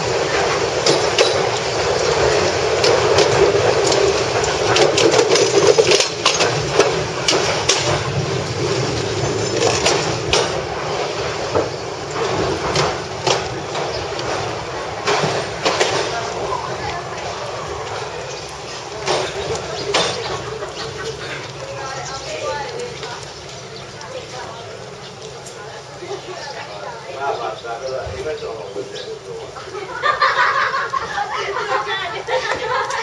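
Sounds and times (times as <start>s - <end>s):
wheels knocking on rail joints: 0.0s - 29.6s
railcar running noise: 0.0s - 33.0s.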